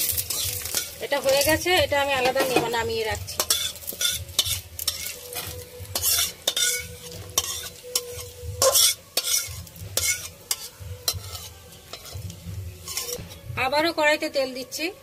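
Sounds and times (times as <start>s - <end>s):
metal spatula scraping a pan: 0.0s - 13.8s
oil sizzling: 0.0s - 14.7s.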